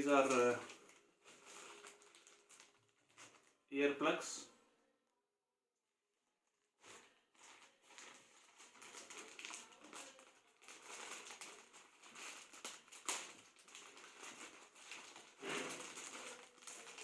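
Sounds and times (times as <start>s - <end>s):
plastic packaging crinkling: 0.0s - 3.7s, 6.8s - 17.0s.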